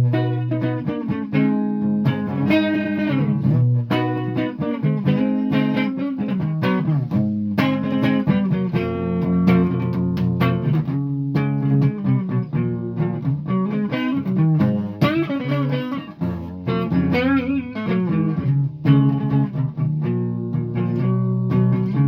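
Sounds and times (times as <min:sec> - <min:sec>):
guitar plucked notes and chords: 0:00.0 - 0:22.0.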